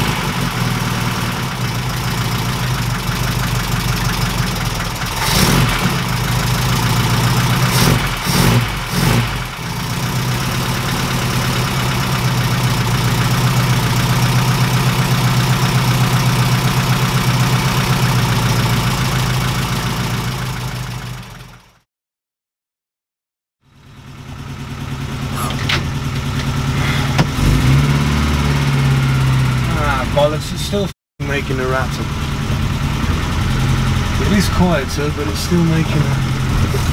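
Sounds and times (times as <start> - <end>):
car engine idling with valve rattle: 0.0 - 21.8, 23.7 - 36.9.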